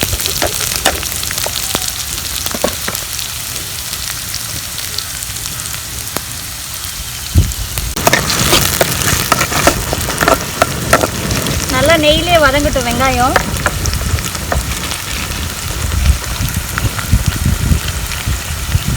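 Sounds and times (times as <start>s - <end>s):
onions sizzling in oil: 0.0s - 18.9s
seeds popping and sizzling in oil: 0.0s - 18.9s.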